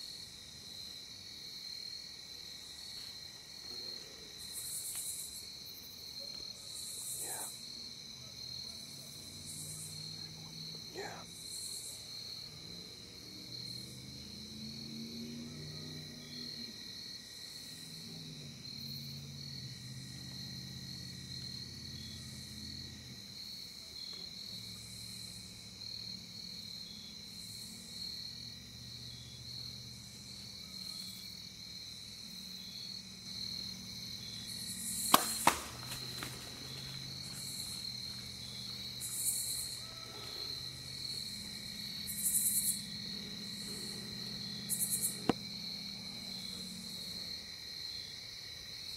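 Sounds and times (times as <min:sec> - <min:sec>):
crickets and insects chirping: 0:00.0 - 0:48.9
high insect buzz: 0:00.0 - 0:48.9.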